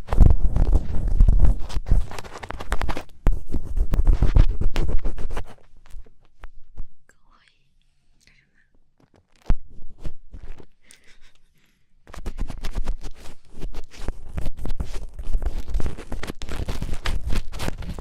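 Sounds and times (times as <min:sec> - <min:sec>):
scratching on microphone: 0:00.0 - 0:06.9, 0:09.1 - 0:18.0.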